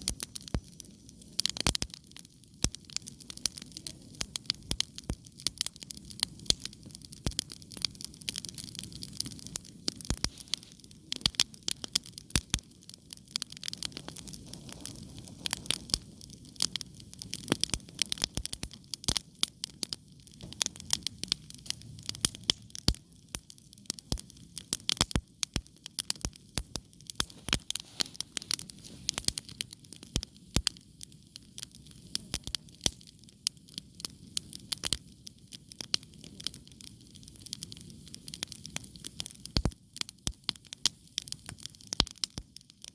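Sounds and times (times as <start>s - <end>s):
logs crackling and popping: 0.0s - 42.9s
low rumble of flame: 0.0s - 42.9s.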